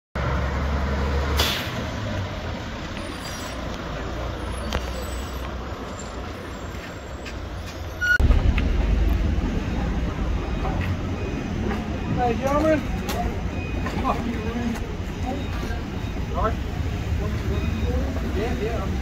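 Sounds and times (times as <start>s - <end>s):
diesel engine rumbling: 0.2s - 19.0s
street noise: 0.2s - 19.0s.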